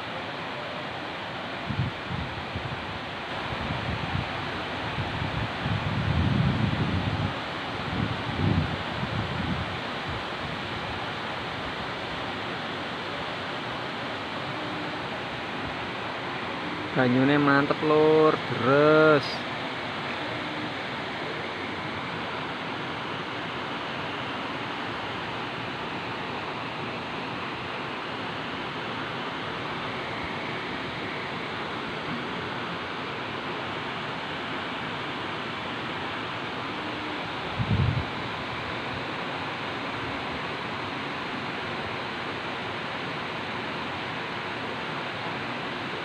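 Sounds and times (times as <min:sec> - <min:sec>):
river water pouring over weir: 0:00.0 - 0:46.0.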